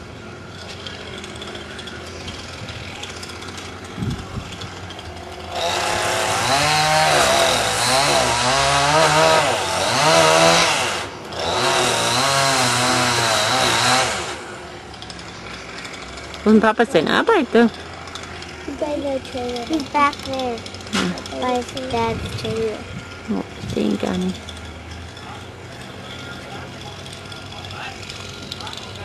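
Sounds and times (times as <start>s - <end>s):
chainsaw cutting wood: 0.5s - 26.0s.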